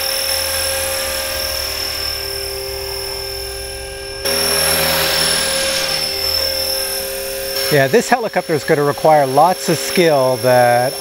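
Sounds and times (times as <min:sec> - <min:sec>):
rc helicopter motor and rotors whining: 0:00.0 - 0:11.0.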